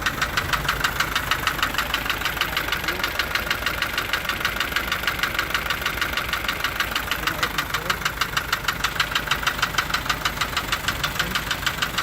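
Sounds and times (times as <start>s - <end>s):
rapid even engine ticking: 0.0s - 12.0s
truck engine idling: 0.0s - 12.0s.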